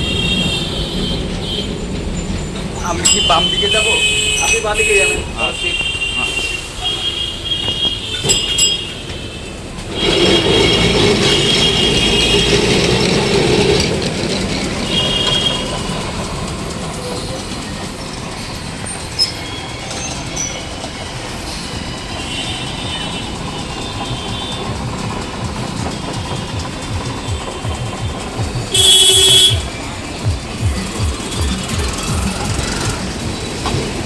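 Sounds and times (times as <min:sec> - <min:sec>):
high wheel squeals: 0:00.0 - 0:34.0
tram rumbling on rails: 0:00.0 - 0:34.0.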